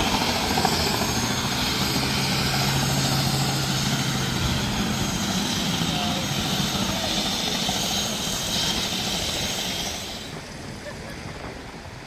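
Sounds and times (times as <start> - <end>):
helicopter engine and rotor: 0.0 - 10.5.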